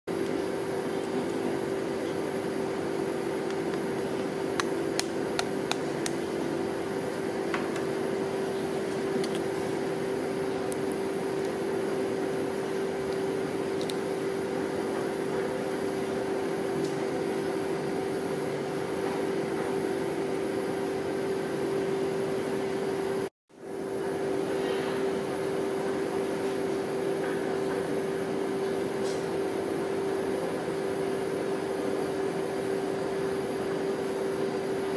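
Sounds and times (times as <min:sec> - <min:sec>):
refrigeration unit humming: 0:00.1 - 0:34.9.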